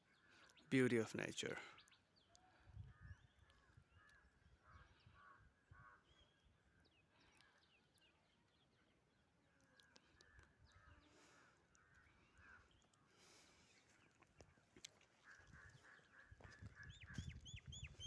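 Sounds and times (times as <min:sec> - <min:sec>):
faint birds calling: 0:00.0 - 0:18.0.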